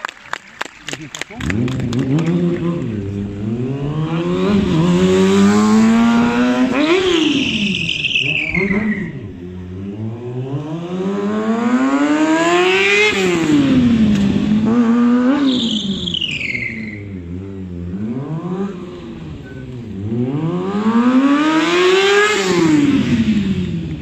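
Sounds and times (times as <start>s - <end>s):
motorcycle engine revving: 1.3s - 24.0s.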